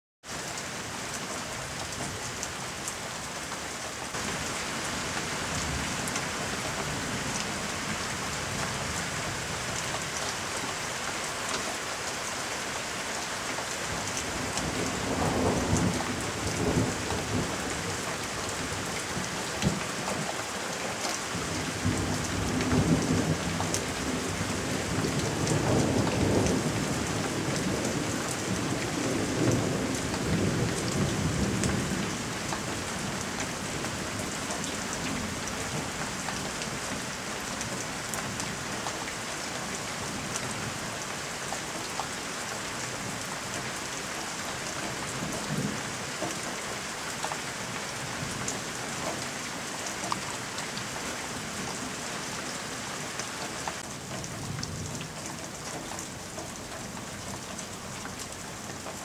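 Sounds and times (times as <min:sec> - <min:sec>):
heavy rain pouring: 0:00.2 - 0:59.0.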